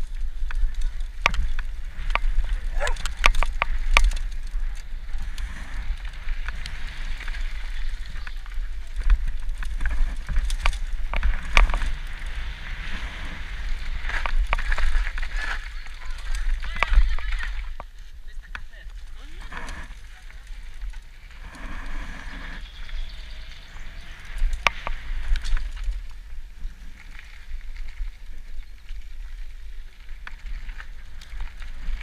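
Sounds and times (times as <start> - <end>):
bike rattling over bumps: 0.0 - 18.0, 18.7 - 32.0
tyre noise on dirt and gravel: 0.0 - 32.0
wind on microphone: 0.0 - 32.0.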